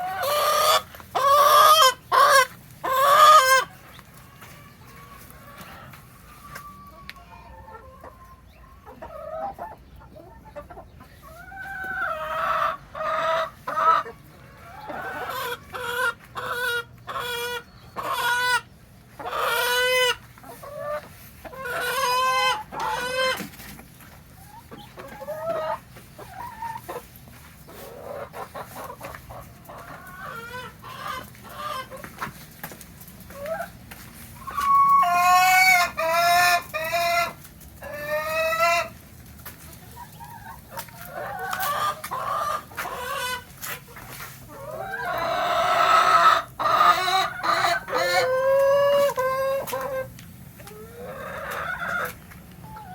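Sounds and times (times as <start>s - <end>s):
chickens clucking: 0.0s - 52.9s.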